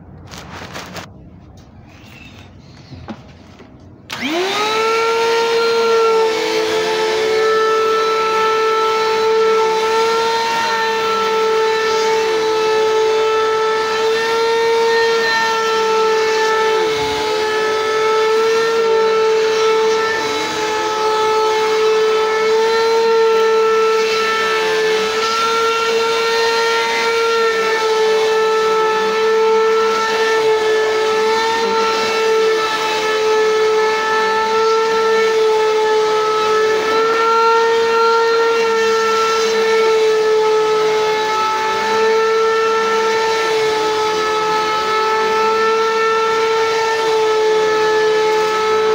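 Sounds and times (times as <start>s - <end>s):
vacuum cleaner motor whine: 1.9s - 48.9s.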